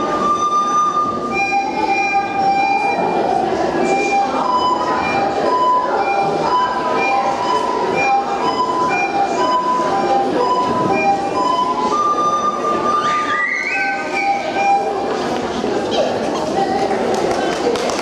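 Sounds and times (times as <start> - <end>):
recorder melody: 0.0 - 15.8
steady noisy background: 0.0 - 18.0.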